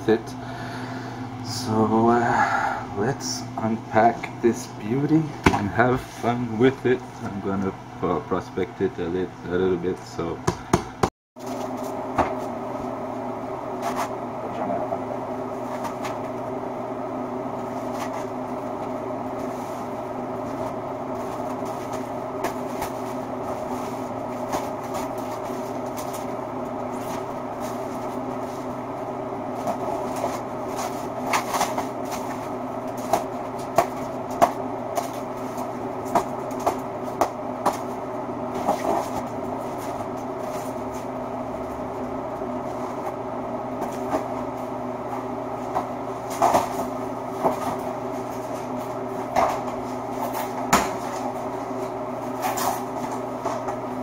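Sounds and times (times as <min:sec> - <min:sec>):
steady electric hum: 0:00.0 - 0:54.0.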